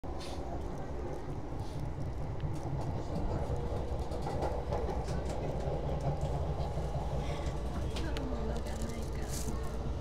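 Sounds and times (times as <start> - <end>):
train wheels rumbling on rails: 0.1 - 10.0.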